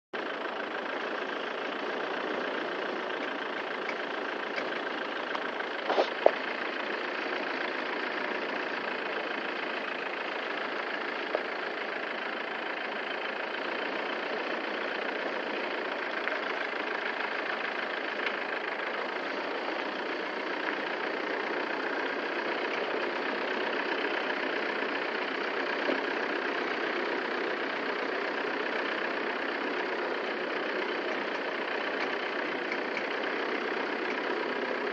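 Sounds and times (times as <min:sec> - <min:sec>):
machinery running: 0:00.2 - 0:34.9.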